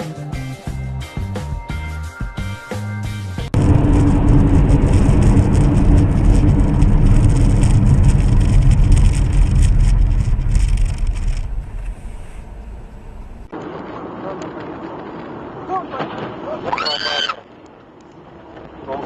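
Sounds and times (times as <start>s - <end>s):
moving vehicle rumble: 3.4s - 19.0s.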